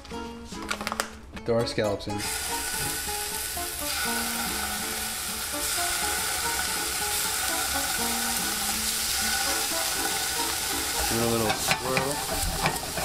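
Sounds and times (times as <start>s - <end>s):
scallops sizzling in hot oil: 2.2s - 13.0s.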